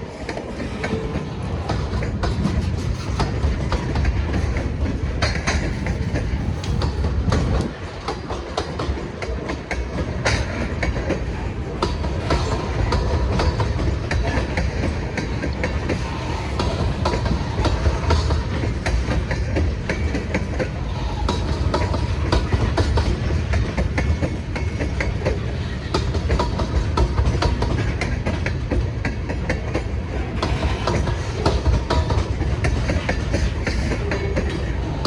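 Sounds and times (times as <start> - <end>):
freight cars rumbling on rails: 0.0 - 35.0
wheels clicking over rail joints: 0.0 - 35.0.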